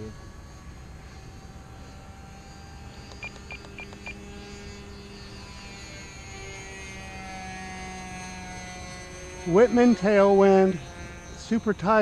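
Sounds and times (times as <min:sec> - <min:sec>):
model airplane engine drone: 0:00.0 - 0:12.0.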